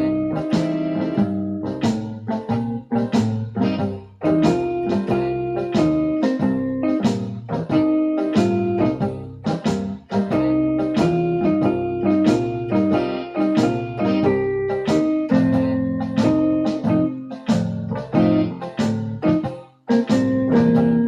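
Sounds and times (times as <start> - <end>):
blues on electronic keyboard: 0.0 - 21.0.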